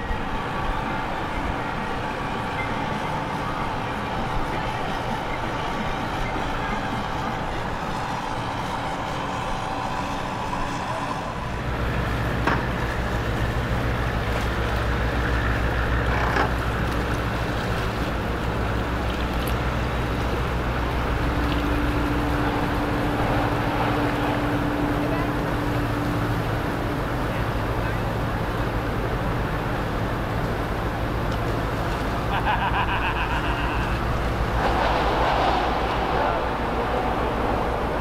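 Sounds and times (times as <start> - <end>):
marine diesel engines droning: 0.0 - 38.0.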